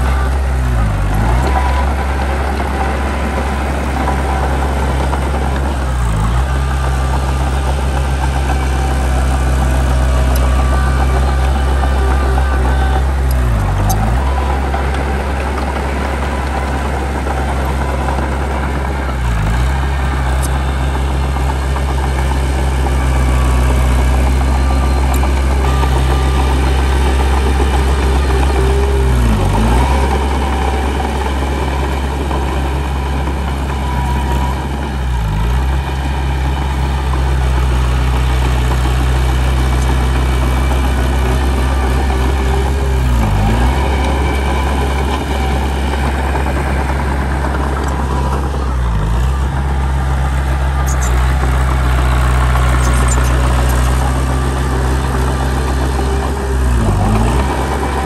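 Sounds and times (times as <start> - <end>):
heavy diesel engine droning: 0.0 - 58.0.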